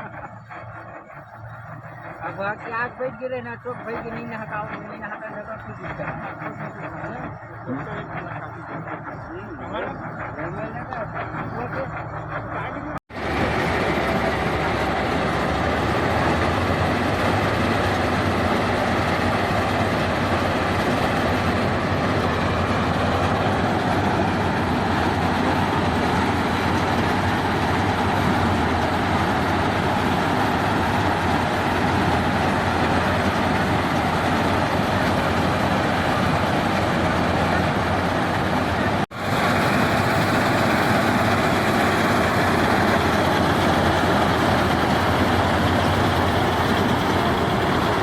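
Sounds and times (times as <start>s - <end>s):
combine harvester running: 0.0s - 48.0s
low engine hum: 0.0s - 48.0s.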